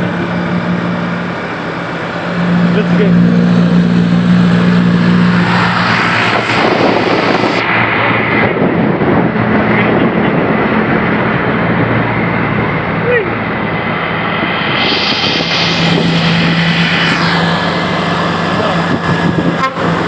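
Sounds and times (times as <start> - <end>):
road noise hiss: 0.0 - 20.0
vehicle engine drone: 0.0 - 20.0.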